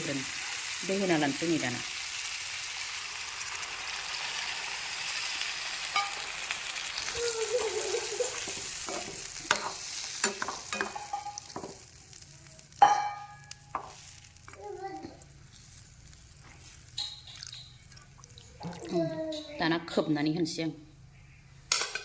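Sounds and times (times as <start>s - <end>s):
meat sizzling in hot oil: 0.0s - 18.4s.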